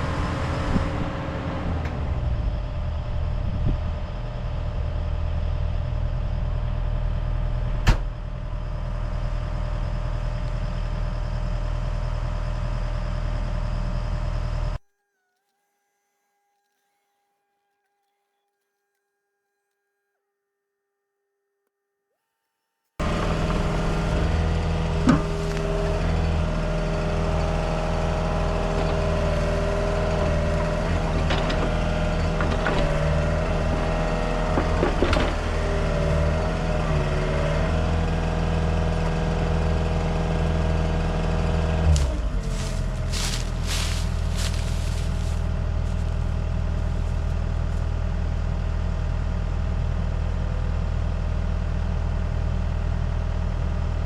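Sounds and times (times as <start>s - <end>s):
heavy equipment engine running: 0.0s - 14.8s, 23.0s - 54.0s.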